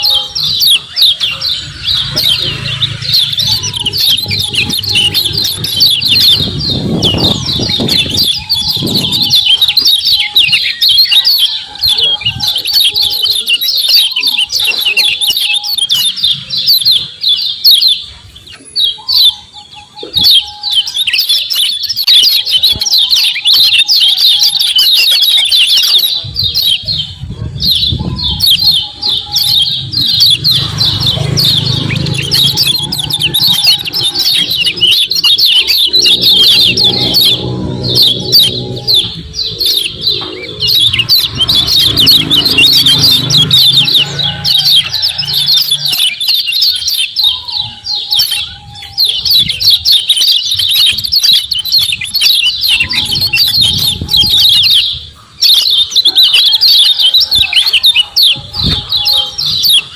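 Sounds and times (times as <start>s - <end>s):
bird chattering chirps: 0.0s - 59.9s.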